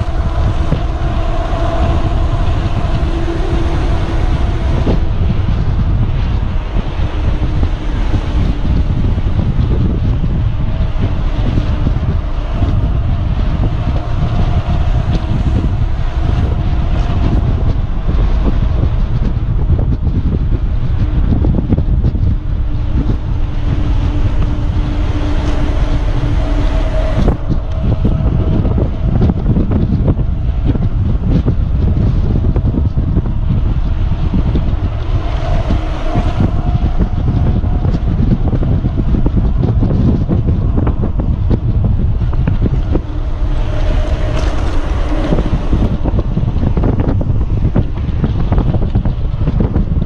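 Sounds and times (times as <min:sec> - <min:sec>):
faint hum: 0:00.0 - 0:50.0
wind buffeting microphone: 0:00.0 - 0:50.0.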